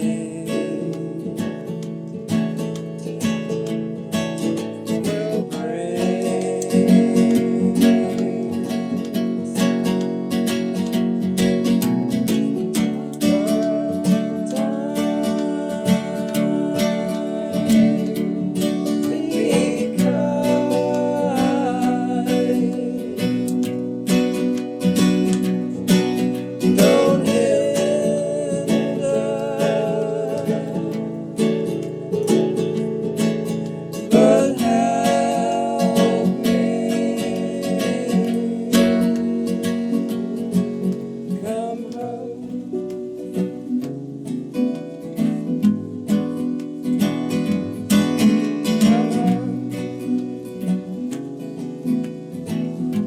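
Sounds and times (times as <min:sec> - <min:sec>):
wordless vocal notes: 0:00.0 - 0:43.3, 0:47.0 - 0:51.1
acoustic guitar strumming: 0:00.0 - 0:53.0.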